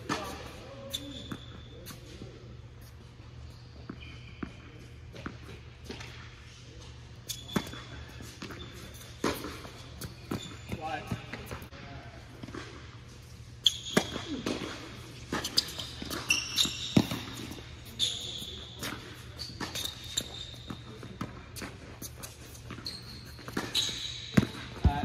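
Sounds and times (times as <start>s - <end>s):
shoes squeaking on court: 0.0s - 25.0s.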